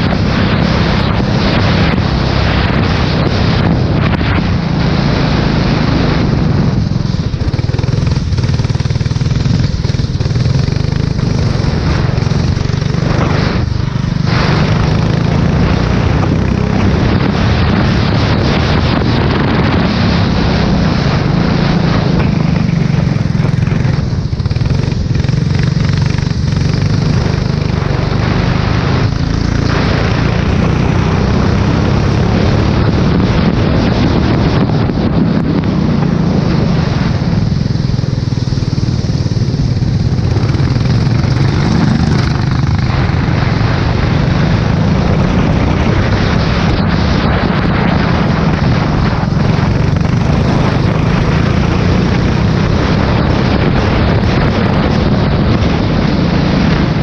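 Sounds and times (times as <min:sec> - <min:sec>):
race car engine at speed: 0:00.0 - 0:57.0
wind rush on microphone: 0:00.0 - 0:57.0.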